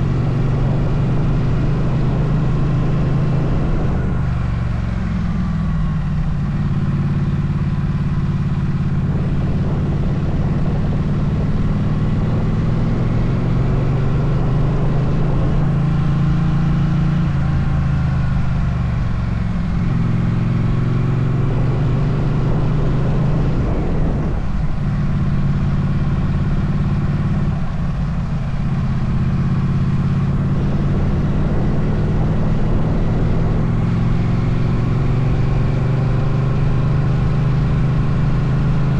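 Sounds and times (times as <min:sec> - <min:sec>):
motorcycle engine revving: 0:00.0 - 0:38.9
road and wind noise: 0:00.0 - 0:38.9.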